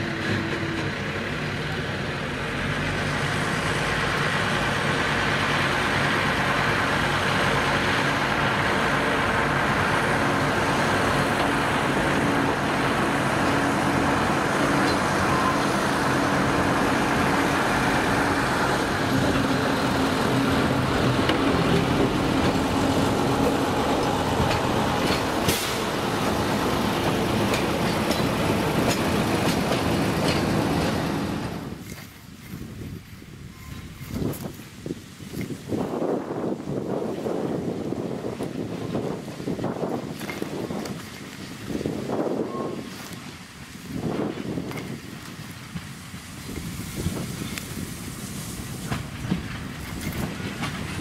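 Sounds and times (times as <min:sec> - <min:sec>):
diesel locomotive engine running: 0:00.0 - 0:51.0.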